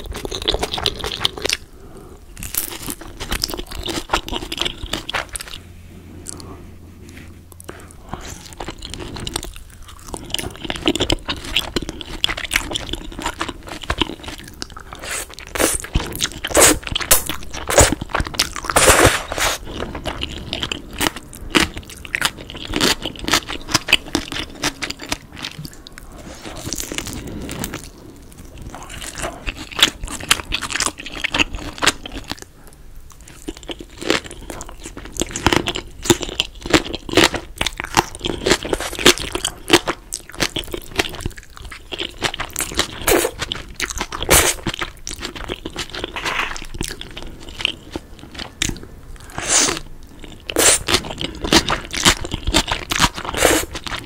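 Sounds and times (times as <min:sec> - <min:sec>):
chewing noodles: 0:00.0 - 0:54.0
crunching and chewing crispy food: 0:00.0 - 0:54.0.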